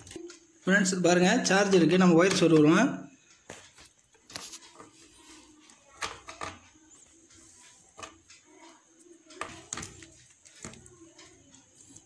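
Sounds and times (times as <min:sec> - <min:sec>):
cable clicks and taps: 0:02.2 - 0:12.0.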